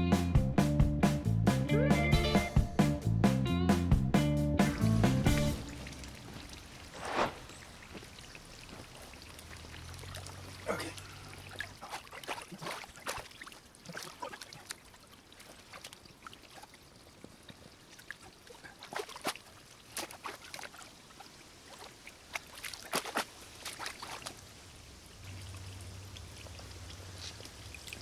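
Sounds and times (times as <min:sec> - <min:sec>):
water trickling into pond: 0:05.5 - 0:28.0.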